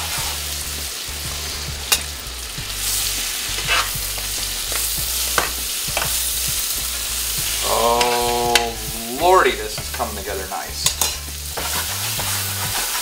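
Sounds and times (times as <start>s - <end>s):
garlic sizzling in a pan: 0.0s - 13.0s.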